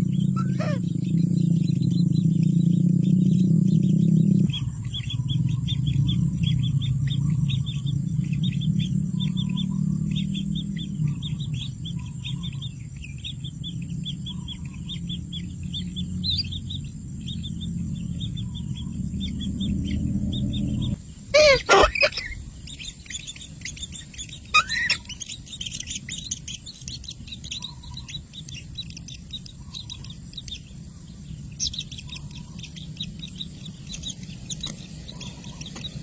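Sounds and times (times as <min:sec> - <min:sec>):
small birds chirping: 0:00.0 - 0:36.0
steady low hum: 0:00.0 - 0:36.0.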